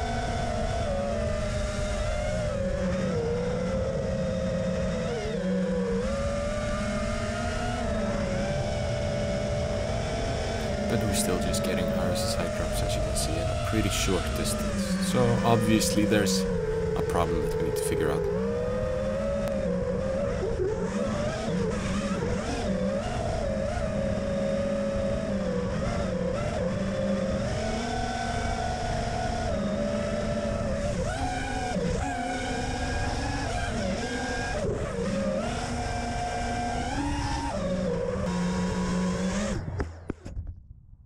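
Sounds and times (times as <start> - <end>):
drone motors whining: 0.0 - 40.3.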